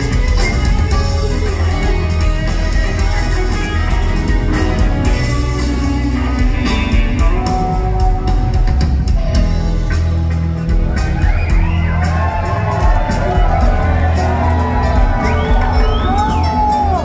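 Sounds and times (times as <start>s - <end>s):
drum kit: 0.0s - 17.0s
electric bass: 0.0s - 17.0s
electric guitars: 0.0s - 17.0s.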